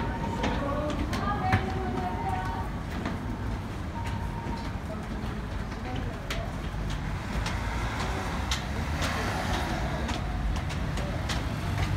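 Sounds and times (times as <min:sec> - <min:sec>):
subway train rumble: 0:00.0 - 0:11.9.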